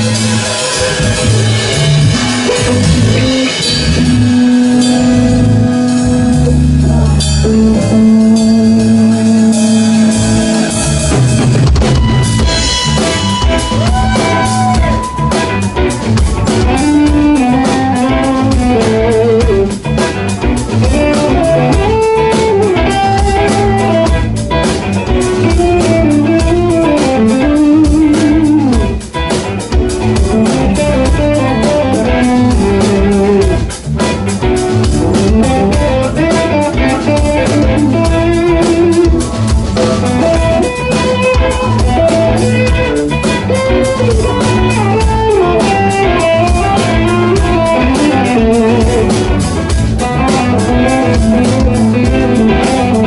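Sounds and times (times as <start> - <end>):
drum kit: 0.0 - 53.0
electric guitar solo: 0.0 - 53.0
keyboards: 0.0 - 53.0.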